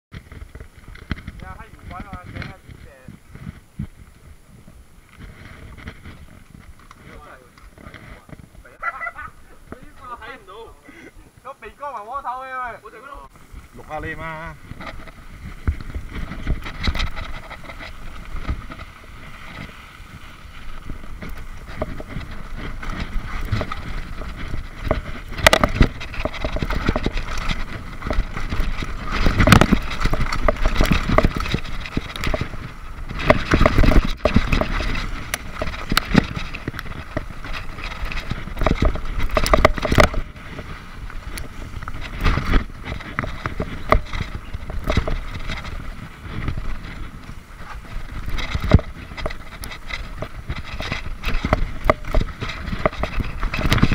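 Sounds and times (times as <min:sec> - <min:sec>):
bike rattling and knocking: 0:00.1 - 0:10.7, 0:13.4 - 0:53.9
bike tyres on dirt: 0:00.1 - 0:53.9.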